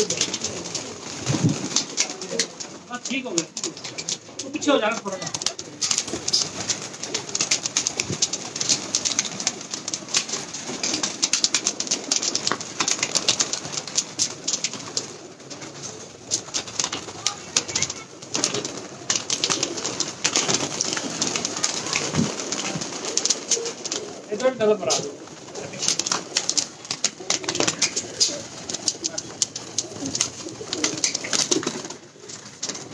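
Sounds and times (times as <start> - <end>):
pigeons cooing: 0.0 - 32.9
wings flapping: 0.0 - 32.9.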